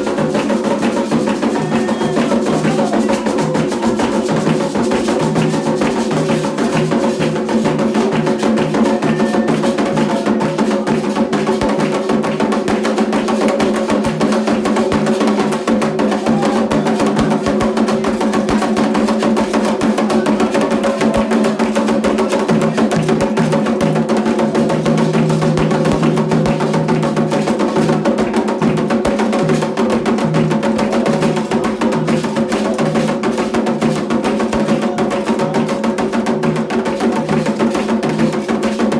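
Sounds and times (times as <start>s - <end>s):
hand drums playing fast rhythm: 0.0s - 38.9s.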